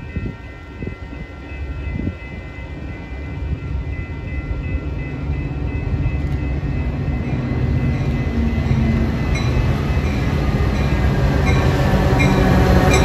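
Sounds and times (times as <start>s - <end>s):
diesel locomotive running: 0.0s - 13.0s.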